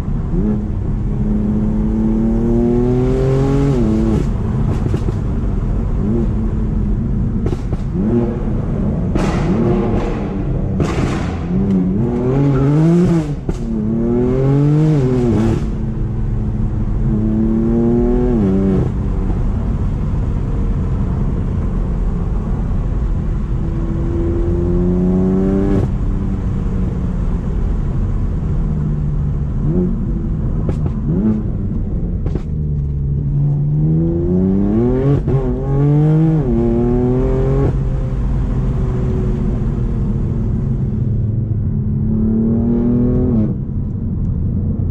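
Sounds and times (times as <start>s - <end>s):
car engine revving through gears: 0.2s - 21.6s, 22.5s - 26.6s, 29.5s - 41.2s, 42.0s - 43.9s.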